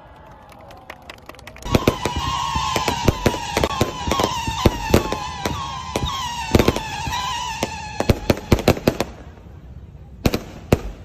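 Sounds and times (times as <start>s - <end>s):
fireworks banging: 1.5s - 11.0s.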